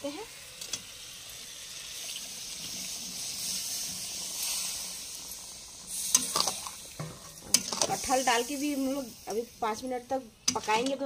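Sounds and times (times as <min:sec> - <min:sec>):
hissing sizzle in a pan: 0:00.0 - 0:11.0.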